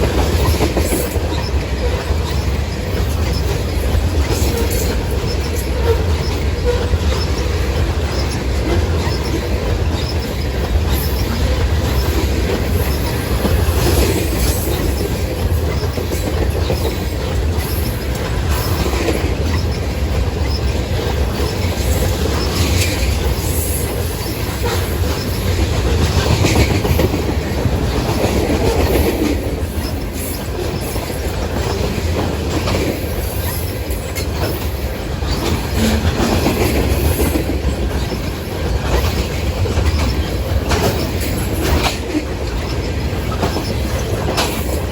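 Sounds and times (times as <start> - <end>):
clickety-clack over rail joints: 0.0 - 44.9
train wheels rumbling on rails: 0.0 - 44.9.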